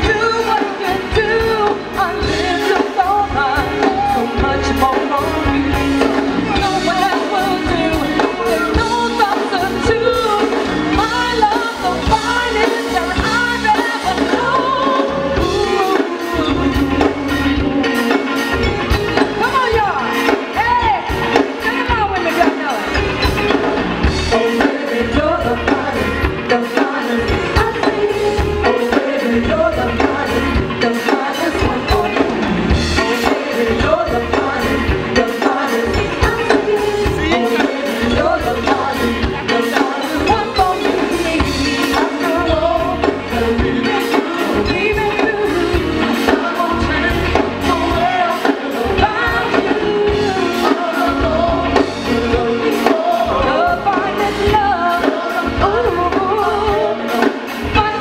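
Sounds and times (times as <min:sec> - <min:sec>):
bass guitar: 0:00.0 - 0:58.0
drum kit beat: 0:00.0 - 0:58.0
keyboard: 0:00.0 - 0:58.0
woman singing lead: 0:00.0 - 0:58.0.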